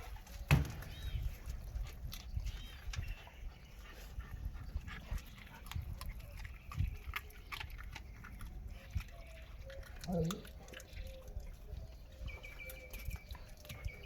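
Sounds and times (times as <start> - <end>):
dogs chewing with crunching: 0.0 - 14.0.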